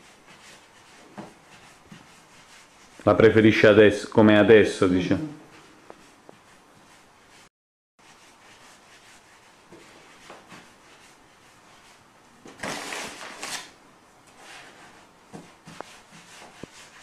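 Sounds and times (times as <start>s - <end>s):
hands rolling dough on wood: 0.0s - 3.8s, 4.9s - 12.6s, 14.3s - 17.0s.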